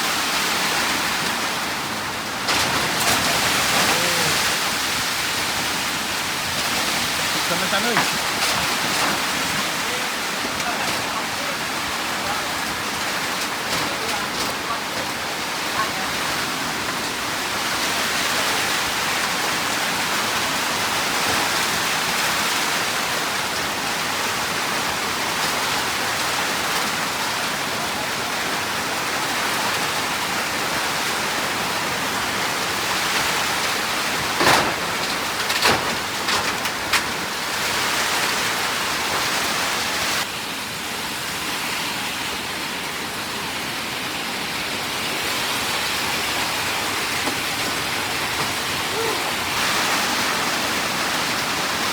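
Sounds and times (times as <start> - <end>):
heavy rain: 0.0 - 51.9.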